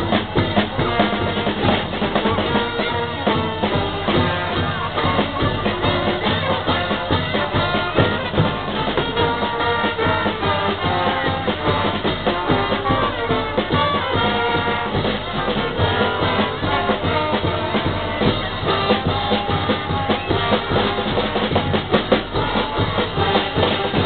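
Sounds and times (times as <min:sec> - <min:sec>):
band with drums and brass: 0:00.0 - 0:24.0.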